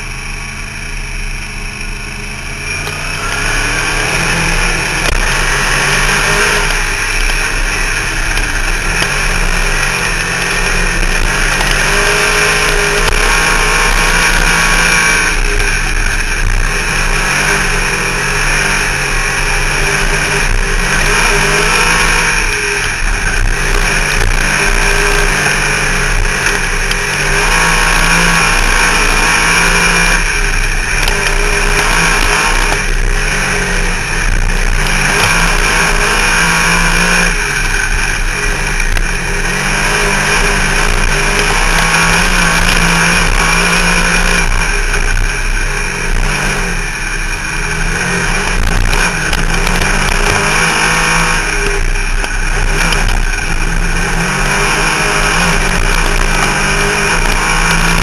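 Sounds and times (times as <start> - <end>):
race car engine at racing speed: 0.0 - 58.0.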